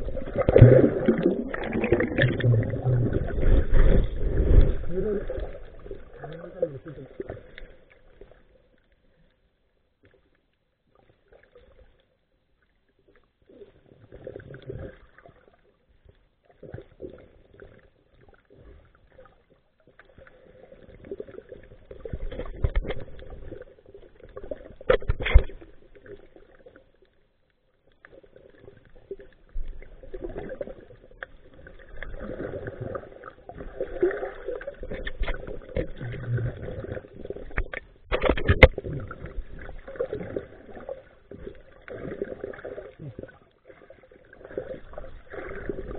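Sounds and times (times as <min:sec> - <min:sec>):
underwater bubbling: 0:00.0 - 0:45.9.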